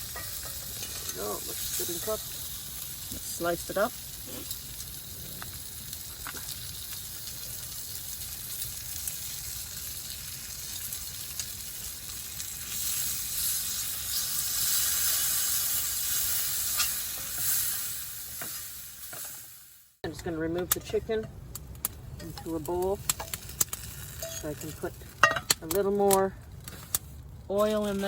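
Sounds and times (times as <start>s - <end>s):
chicken sizzling in oil: 0.0s - 20.0s, 22.3s - 25.4s.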